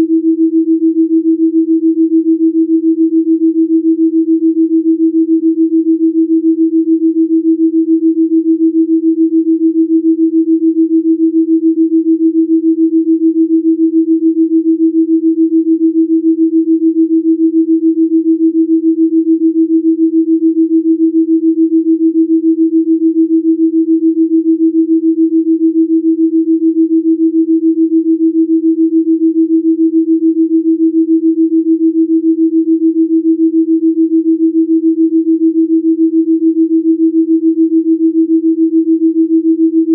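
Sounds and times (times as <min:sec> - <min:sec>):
pulsing low sine tone: 0:00.0 - 0:39.9.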